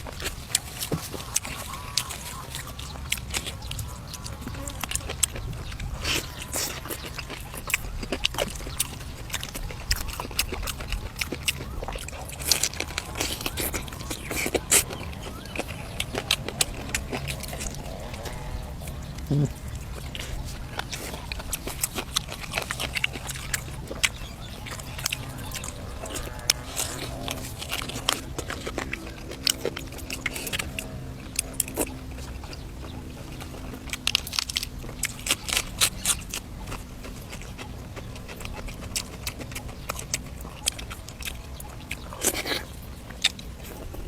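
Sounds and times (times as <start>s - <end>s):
wet chewing: 0.0s - 44.0s.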